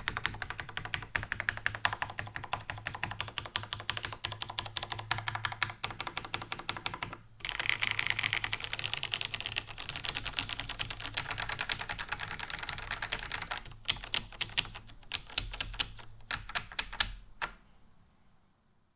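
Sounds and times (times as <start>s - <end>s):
fast typing on mechanical keyboard: 0.0s - 17.6s.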